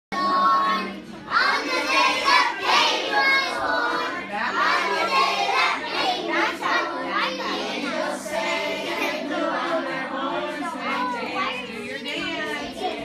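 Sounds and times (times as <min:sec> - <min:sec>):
young children chattering: 0:00.7 - 0:13.0.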